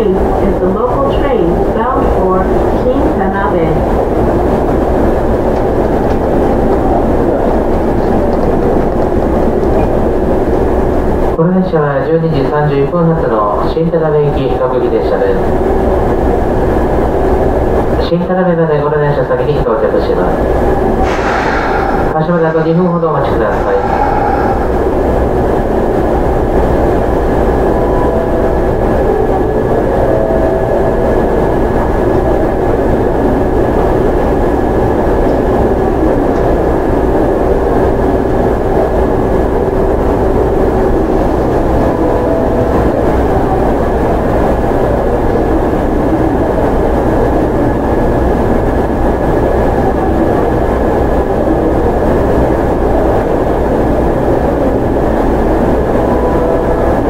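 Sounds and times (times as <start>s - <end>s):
electric train humming with high whine: 0.0s - 57.0s.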